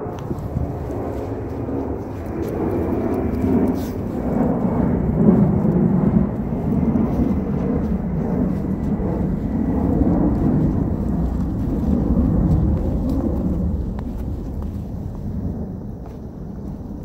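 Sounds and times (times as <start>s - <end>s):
strong gusting wind on microphone: 0.0s - 17.0s.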